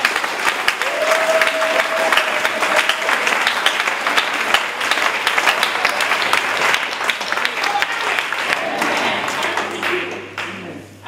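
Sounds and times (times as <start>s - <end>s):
congregation clapping: 0.0s - 10.8s.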